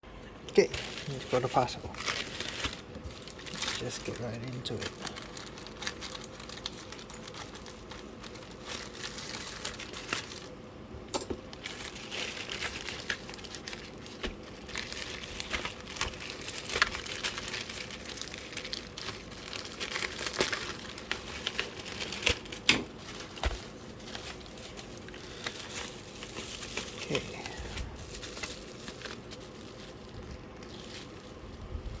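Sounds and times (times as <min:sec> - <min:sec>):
packaging crinkling and rustling: 0:00.5 - 0:32.0
packaging snapping and ripping: 0:00.6 - 0:10.6, 0:11.4 - 0:31.6.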